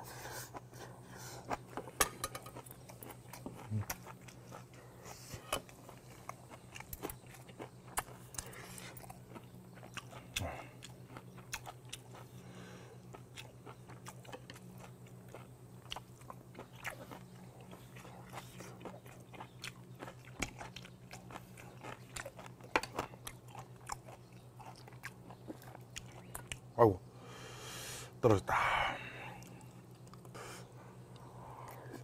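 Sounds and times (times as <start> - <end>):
steady low hum: 0.0 - 32.0
chewing and crunching: 0.1 - 26.8, 29.2 - 32.0.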